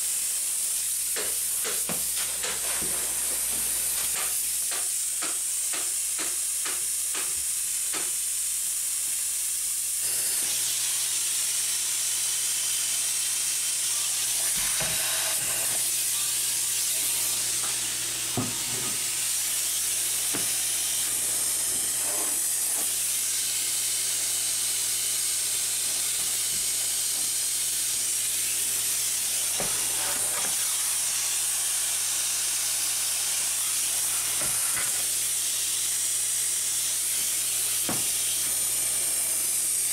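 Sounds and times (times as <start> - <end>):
spray foam gun hissing: 0.0 - 10.5, 14.5 - 39.9.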